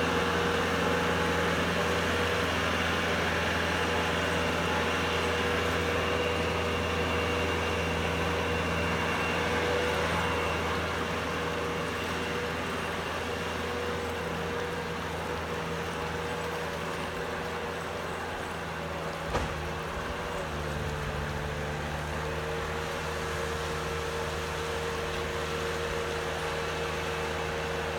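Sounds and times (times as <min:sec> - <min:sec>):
snowplow engine humming: 0:00.0 - 0:27.9.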